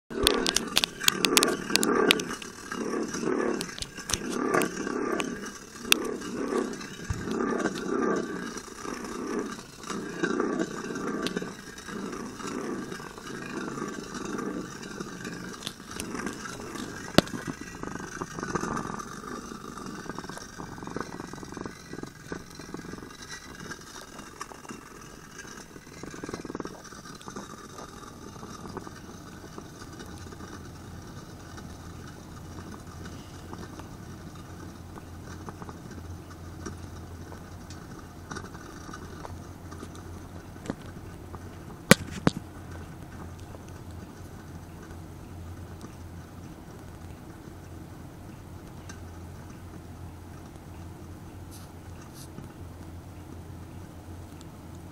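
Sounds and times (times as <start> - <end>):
spinning top whirring: 0.1 - 54.9.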